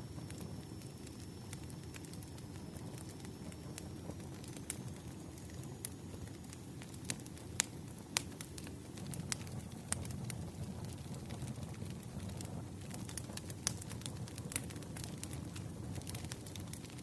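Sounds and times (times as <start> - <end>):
firewood crackling: 0.0 - 17.0.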